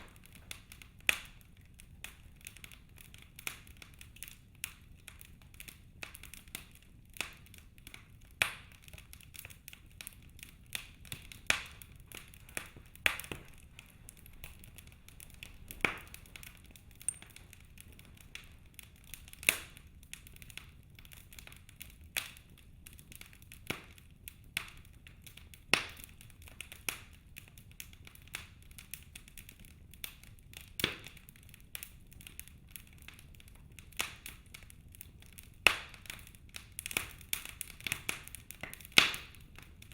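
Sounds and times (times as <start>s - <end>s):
fire crackling and popping: 0.0s - 39.9s
low hiss of fire: 0.0s - 39.9s.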